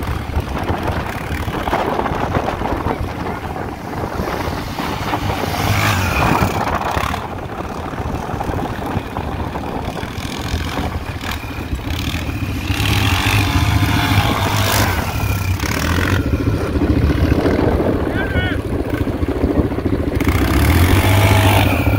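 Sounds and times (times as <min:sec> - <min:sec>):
atv engine running: 0:00.0 - 0:21.9.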